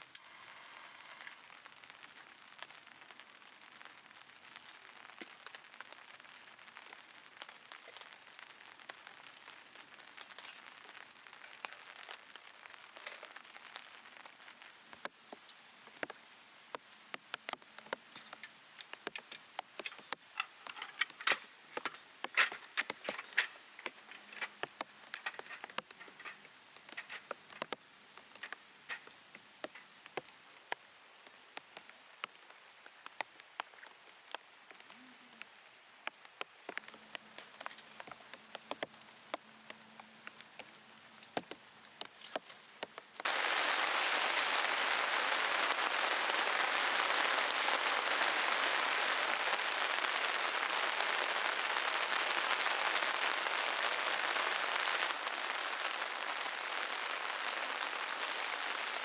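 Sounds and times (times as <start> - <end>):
raindrops tapping on plastic: 1.3 - 59.0.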